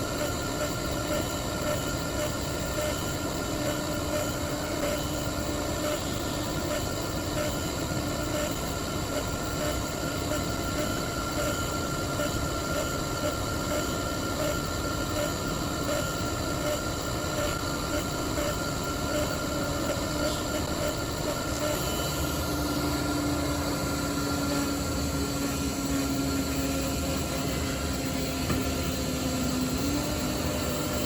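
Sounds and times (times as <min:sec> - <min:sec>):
router machine whining: 0:00.0 - 0:31.0.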